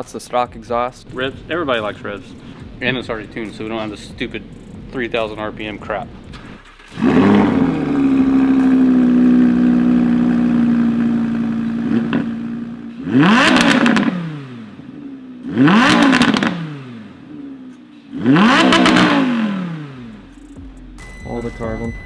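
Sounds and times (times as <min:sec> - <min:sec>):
car engine revving: 0:01.0 - 0:20.6.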